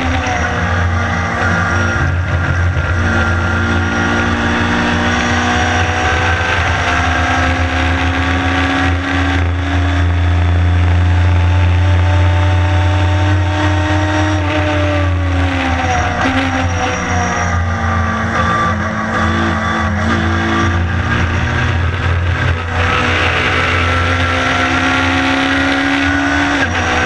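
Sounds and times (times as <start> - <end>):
race car engine at high revs: 0.0 - 27.0.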